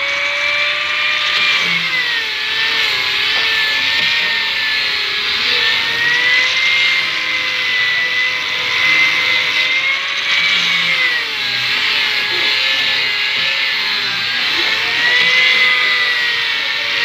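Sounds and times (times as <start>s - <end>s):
electric grinder motor whine: 0.0s - 17.0s
grinding hiss: 1.1s - 17.0s.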